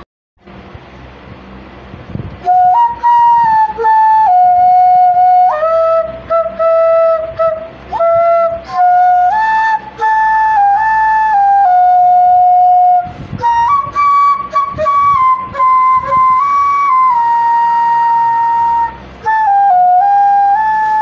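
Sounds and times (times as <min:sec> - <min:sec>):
solo flute melody: 0:02.4 - 0:21.0.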